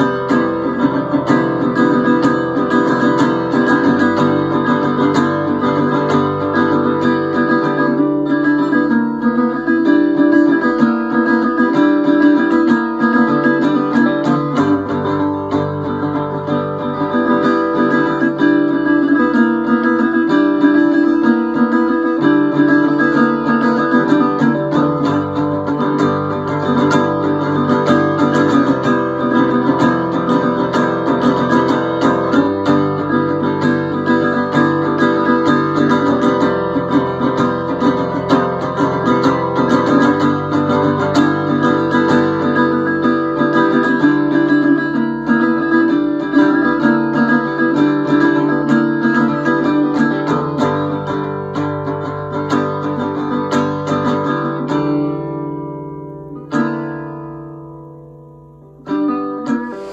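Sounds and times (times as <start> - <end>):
acoustic guitar picked and strummed: 0.0 - 59.9.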